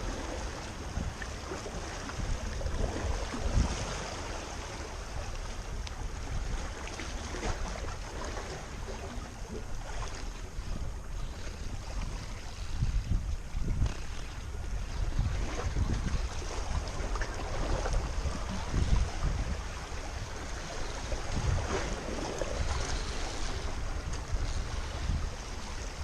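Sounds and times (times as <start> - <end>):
sea waves: 0.0 - 26.0
wind gusting over microphone: 0.0 - 26.0.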